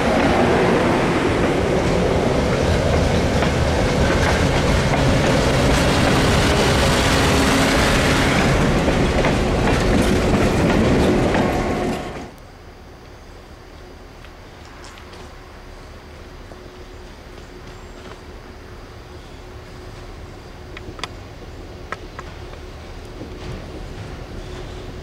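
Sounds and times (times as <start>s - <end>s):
diesel locomotive passing: 0.0s - 12.4s, 14.6s - 25.0s
train wheels on rails: 0.0s - 12.4s, 14.1s - 25.0s.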